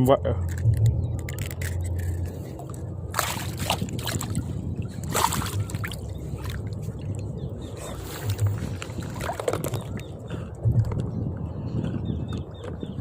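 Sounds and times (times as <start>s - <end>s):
water sloshing and splashing: 0.5s - 11.0s.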